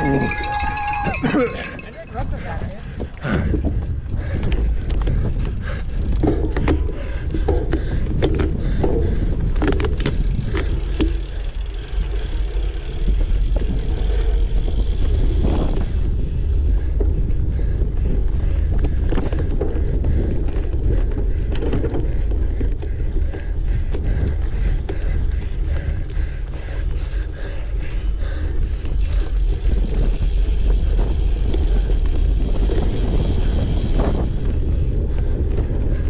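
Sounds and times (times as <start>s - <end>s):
bike rattling and knocking: 0.0s - 36.0s
wind rumbling on microphone: 0.0s - 36.0s.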